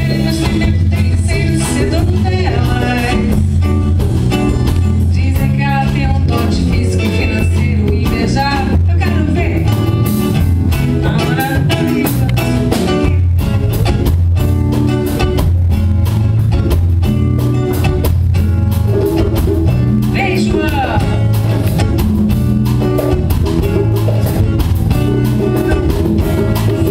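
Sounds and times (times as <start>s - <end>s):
live band music: 0.0s - 26.9s
strong bass line: 0.0s - 26.9s.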